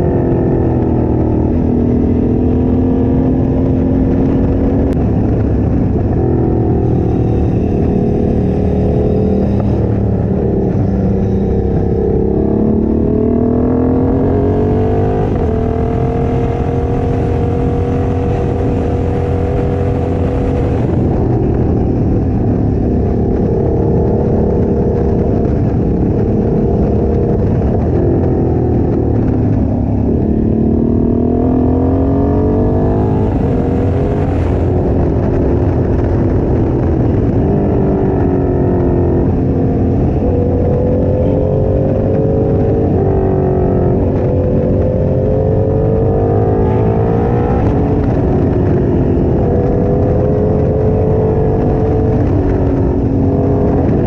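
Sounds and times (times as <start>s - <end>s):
motorcycle engine running: 0.0s - 54.0s
wind on microphone: 0.0s - 54.0s.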